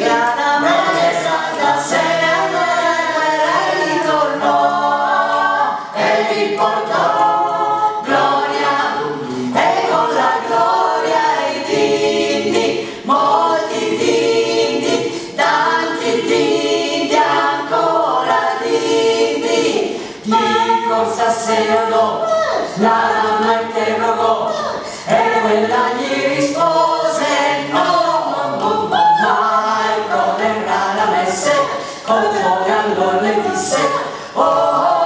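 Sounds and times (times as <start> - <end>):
group singing a cappella: 0.0 - 35.0.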